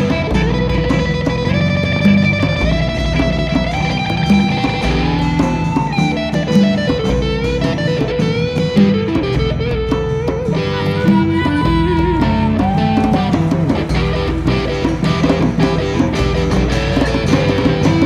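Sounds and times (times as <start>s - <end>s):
electric guitar bending melody notes: 0.0s - 18.0s
live band accompaniment: 0.0s - 18.0s.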